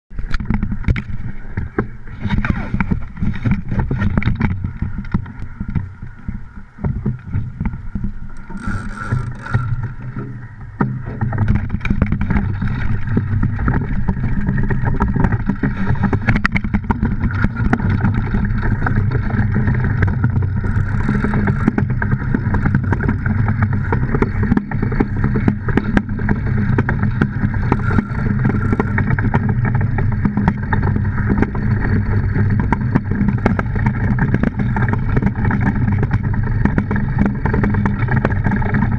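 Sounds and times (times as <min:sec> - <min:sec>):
iceboat runners rumbling over ice: 0:00.1 - 0:38.9.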